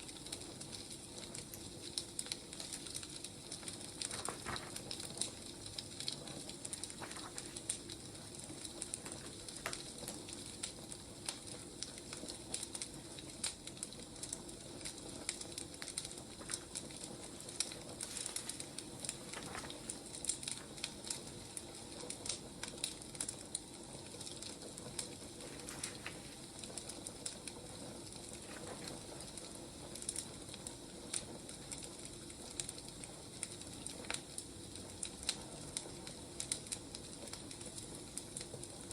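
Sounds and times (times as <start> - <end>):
burning firewood crackling: 0.0 - 38.9.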